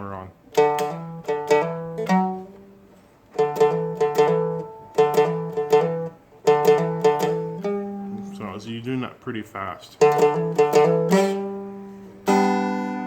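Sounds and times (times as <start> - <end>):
dulcimer strummed: 0.0 - 9.0, 9.9 - 13.0.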